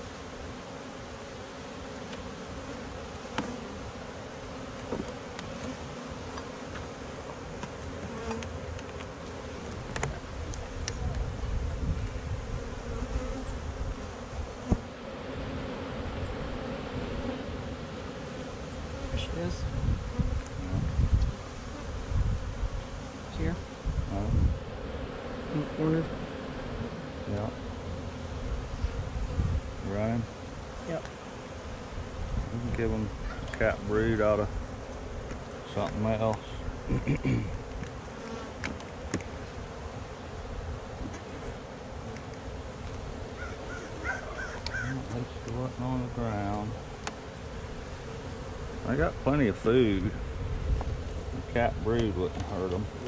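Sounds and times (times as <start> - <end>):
honey bees buzzing: 0.0 - 53.0.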